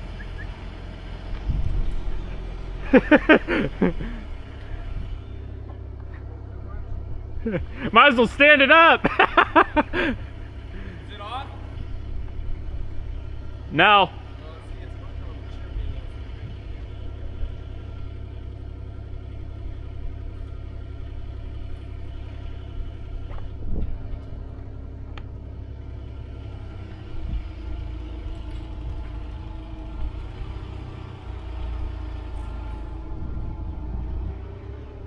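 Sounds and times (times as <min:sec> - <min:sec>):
engine rumbling: 0:00.0 - 0:35.0.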